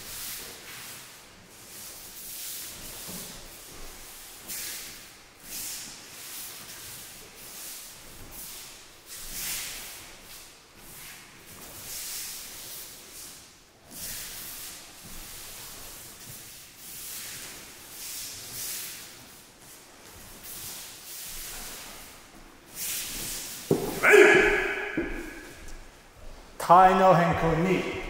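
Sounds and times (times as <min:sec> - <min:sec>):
bare feet on mats: 0:00.0 - 0:26.6
uniform swishes and rustles: 0:00.0 - 0:26.6.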